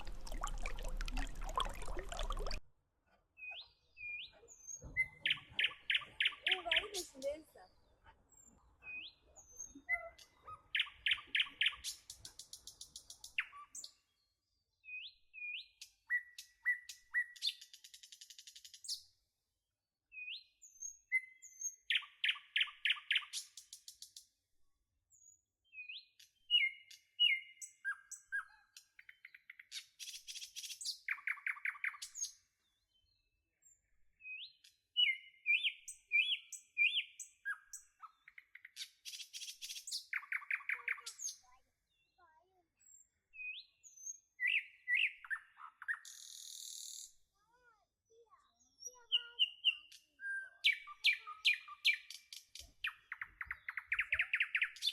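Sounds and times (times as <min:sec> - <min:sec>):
songbirds calling and singing: 0:03.4 - 0:19.3, 0:20.1 - 0:24.5, 0:25.1 - 0:47.3, 0:48.1 - 0:54.9.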